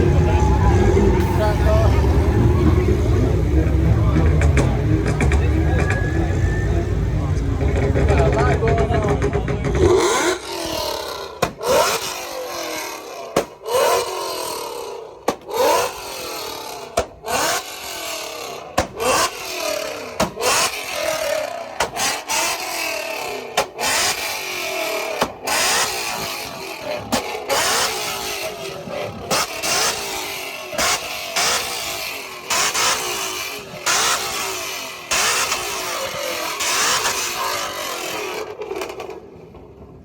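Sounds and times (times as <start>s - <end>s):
car engine revving hard: 0.0s - 39.2s
sharp exhaust cracks: 0.0s - 39.3s.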